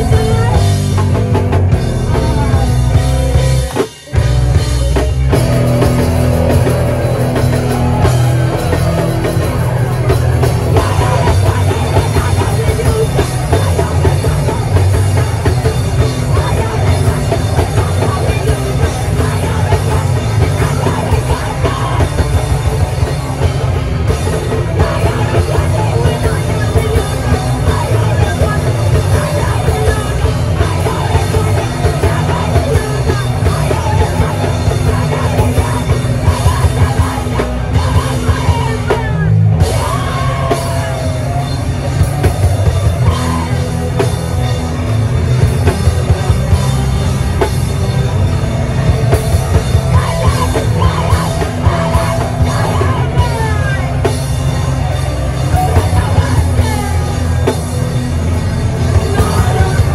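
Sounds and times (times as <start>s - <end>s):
live heavy rock band: 0.0s - 59.9s
pounding drum kit: 0.0s - 59.9s.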